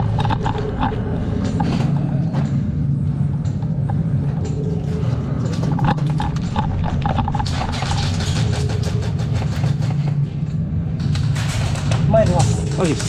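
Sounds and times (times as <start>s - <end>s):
gear clattering: 0.0s - 13.0s
steady low rumble: 0.0s - 13.0s.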